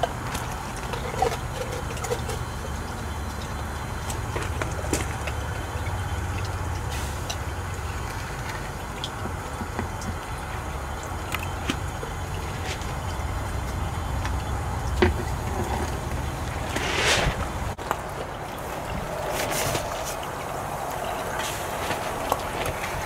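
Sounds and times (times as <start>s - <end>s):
water flowing with low rumble: 0.0s - 23.0s.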